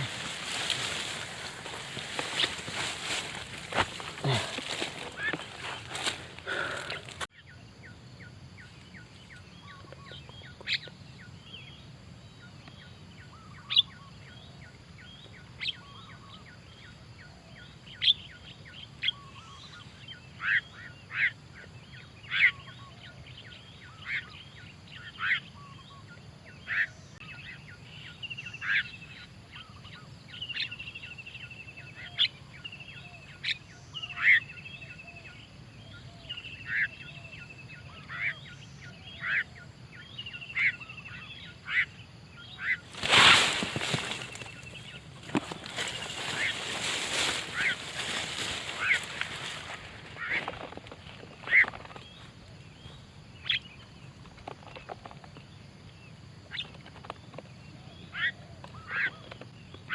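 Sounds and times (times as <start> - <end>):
starlings calling: 0.0 - 7.6, 9.0 - 59.9.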